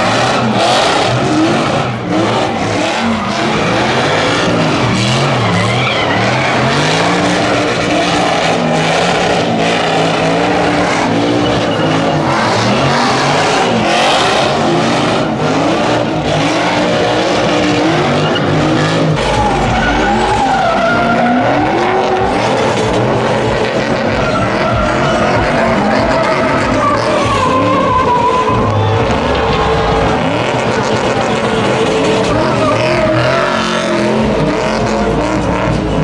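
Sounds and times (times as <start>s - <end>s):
tires screeching on pavement: 0.0s - 36.0s
truck engine revving: 0.0s - 36.0s.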